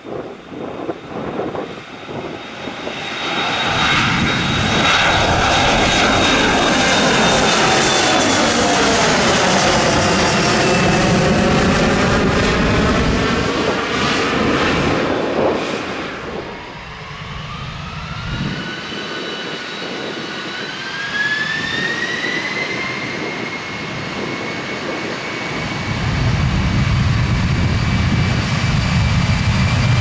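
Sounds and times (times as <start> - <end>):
jet airliner passing at takeoff: 0.0 - 30.0.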